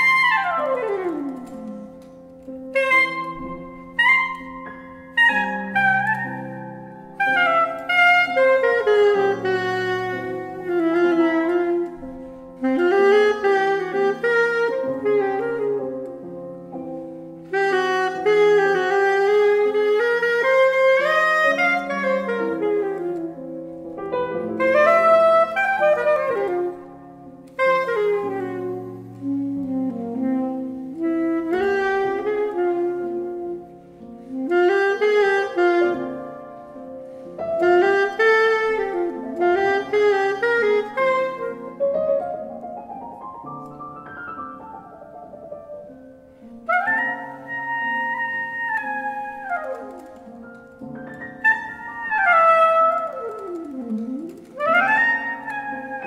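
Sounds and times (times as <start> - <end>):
alto saxophone jazz melody: 0.0 - 56.0
grand piano accompaniment: 0.0 - 56.0.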